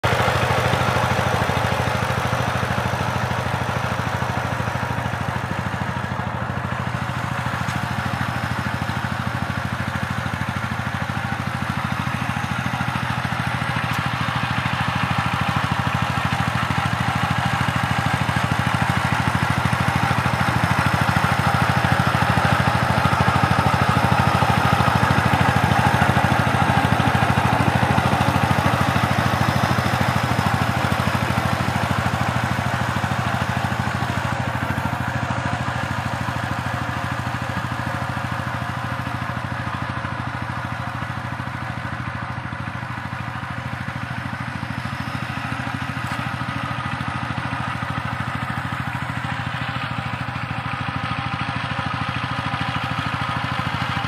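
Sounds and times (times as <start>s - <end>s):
diesel power tiller engine: 0.0s - 54.0s.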